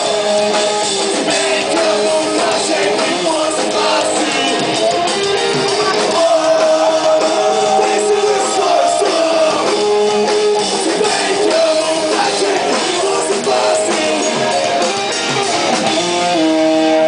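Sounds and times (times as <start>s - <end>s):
electric guitars holding chords: 0.0s - 17.0s
live rock band playing: 0.0s - 17.0s.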